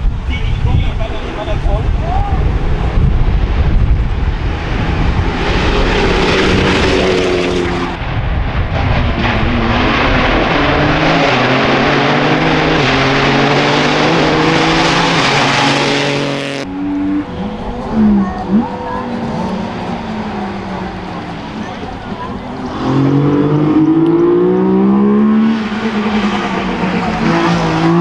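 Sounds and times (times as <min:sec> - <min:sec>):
rally car engine revving: 0:01.2 - 0:28.0.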